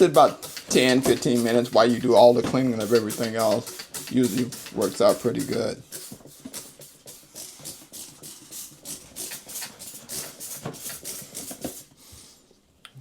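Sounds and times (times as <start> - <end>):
trigger spray bottle hissing: 0.0 - 11.9.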